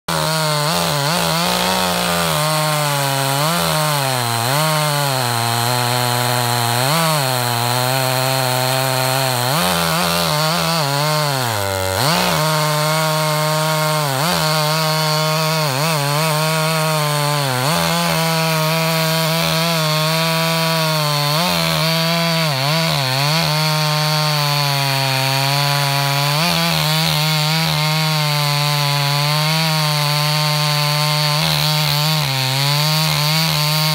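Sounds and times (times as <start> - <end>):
chainsaw cutting through log: 0.0 - 33.9.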